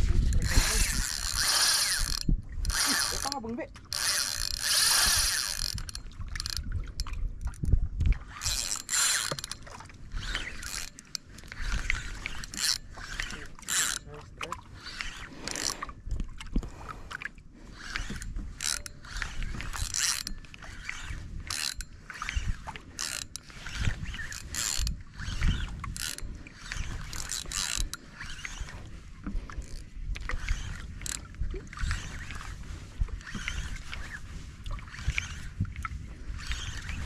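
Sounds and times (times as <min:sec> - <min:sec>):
fishing reel cranking: 0:00.0 - 0:16.2, 0:17.7 - 0:37.0.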